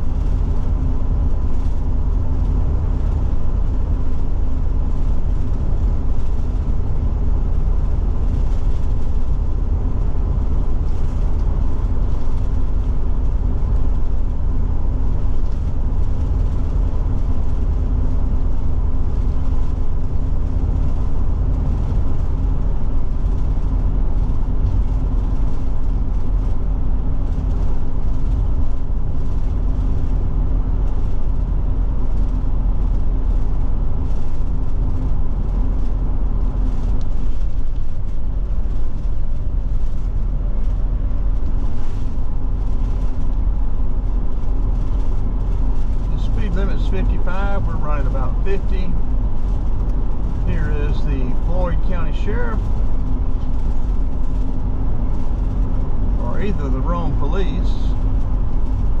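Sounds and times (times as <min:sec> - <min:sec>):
engine and tyre rumble: 0:00.0 - 0:59.0
faint steady hum: 0:00.0 - 0:59.0.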